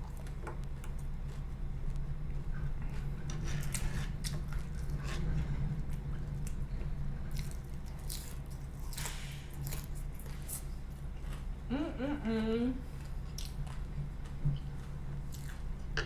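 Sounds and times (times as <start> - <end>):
chewing with mouth smacks: 0.0 - 11.6, 12.9 - 16.0
steady low hum: 0.0 - 16.0.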